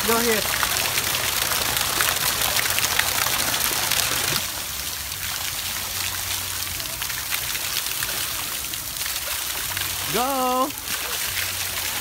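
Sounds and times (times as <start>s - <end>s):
water spraying and pattering: 0.0s - 12.0s.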